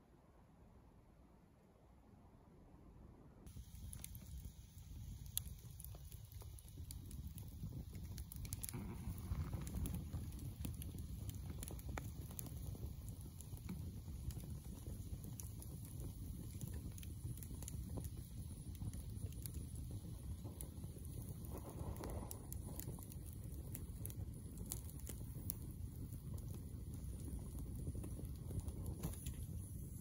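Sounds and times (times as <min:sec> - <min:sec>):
low steady rumble: 0:00.0 - 0:30.0
campfire crackling: 0:03.4 - 0:30.0
sharp pops of burning wood: 0:03.5 - 0:30.0.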